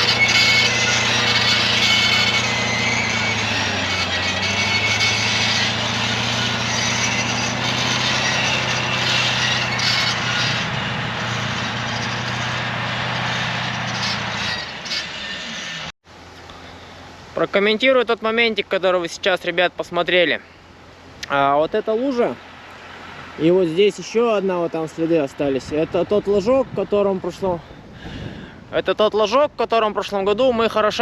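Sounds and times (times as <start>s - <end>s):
tractor engine drone: 0.0s - 28.0s.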